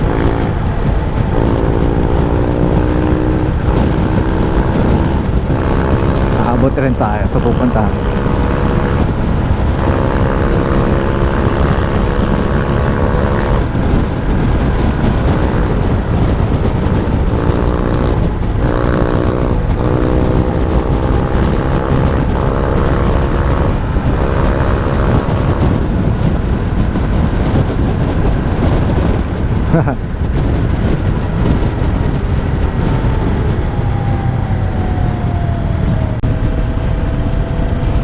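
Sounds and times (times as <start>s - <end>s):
motorcycle engine revving: 0.0s - 38.0s
wind rumble on microphone: 0.0s - 38.0s.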